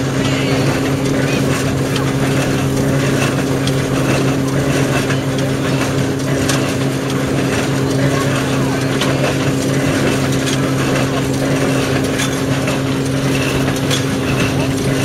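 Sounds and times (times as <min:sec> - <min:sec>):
knocking and clatter of moving parts: 0:00.0 - 0:15.0
threshing machine humming: 0:00.0 - 0:15.0.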